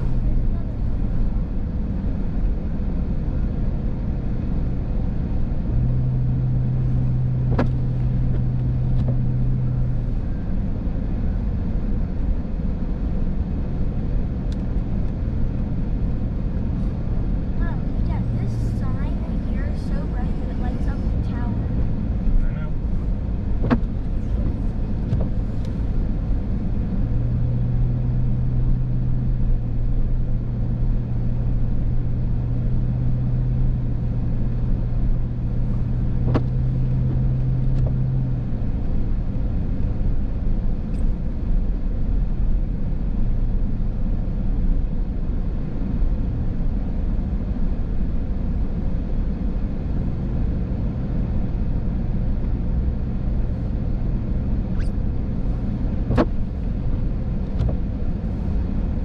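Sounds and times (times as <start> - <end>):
car engine hum: 0.0 - 59.0
tyre and road rumble: 0.0 - 59.0.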